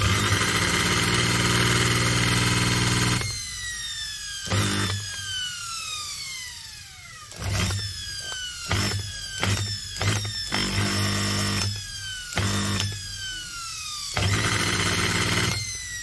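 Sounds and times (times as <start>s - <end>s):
electric drill buzzing hum: 0.0s - 16.0s
motor whine winding down: 0.0s - 16.0s.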